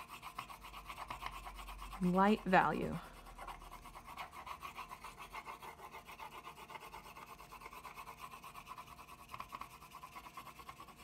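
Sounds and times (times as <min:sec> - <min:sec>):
wax crayon scratching on paper: 0:00.0 - 0:11.0.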